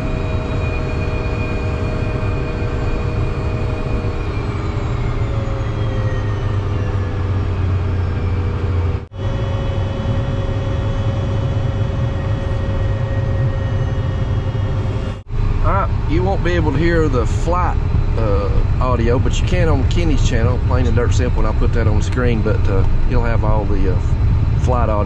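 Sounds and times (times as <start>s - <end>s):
jet engine high whine: 0.0s - 25.0s
jet engines low rumble: 0.0s - 25.0s.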